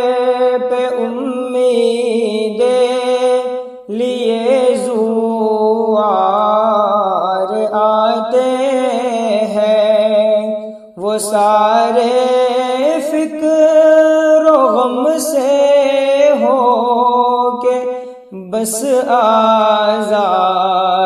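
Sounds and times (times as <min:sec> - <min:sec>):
person singing devotional song: 0:00.0 - 0:21.0.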